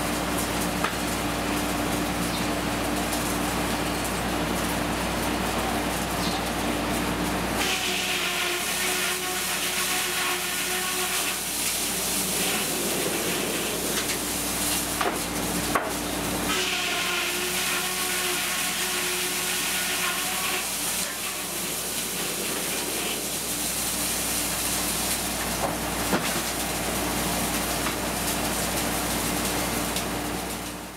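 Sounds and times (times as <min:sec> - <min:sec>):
sawmill humming with hiss: 0:00.0 - 0:30.9.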